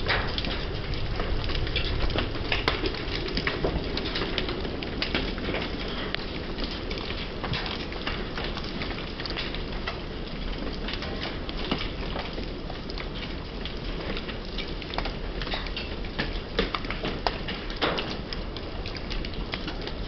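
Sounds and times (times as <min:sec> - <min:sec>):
hailstones ticking: 0:00.0 - 0:20.0
rain pattering on wooden deck: 0:00.0 - 0:20.0.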